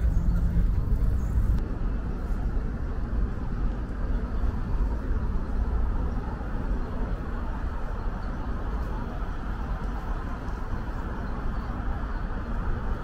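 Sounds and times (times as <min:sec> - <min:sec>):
distant road traffic: 0:00.0 - 0:13.0
low city rumble: 0:00.0 - 0:13.0.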